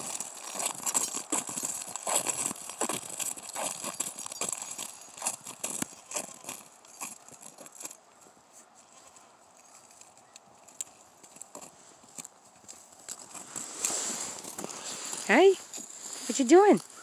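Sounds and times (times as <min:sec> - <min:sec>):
footsteps crunching through snow: 0:00.0 - 0:17.0.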